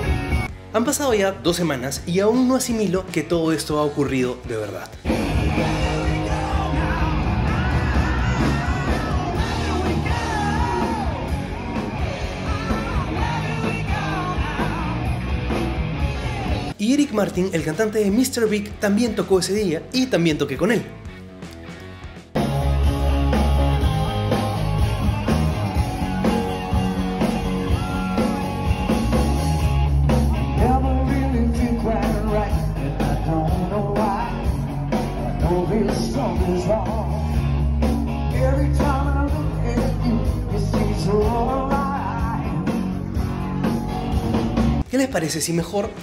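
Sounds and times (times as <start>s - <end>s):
live rock band with singer: 0.0s - 0.7s, 4.6s - 16.8s, 20.7s - 44.9s.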